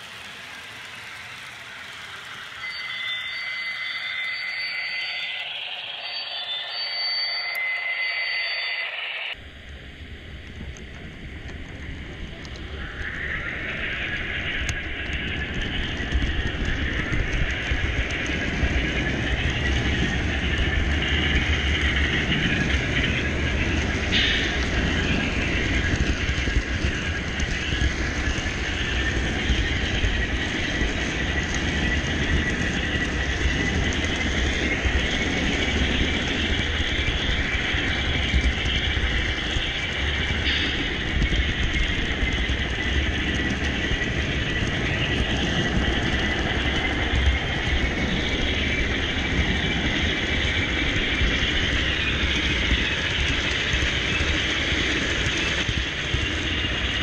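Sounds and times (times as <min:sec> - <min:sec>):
high wavering whine: 0:00.0 - 0:57.0
model train wheels rumbling: 0:10.5 - 0:57.0.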